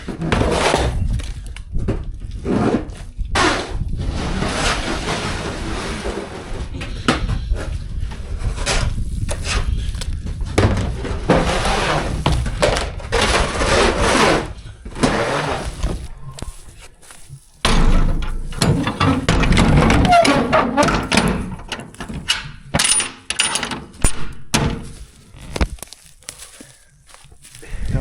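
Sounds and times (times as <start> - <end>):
scraping manure: 0.0 - 1.6, 2.2 - 23.1, 24.8 - 28.0.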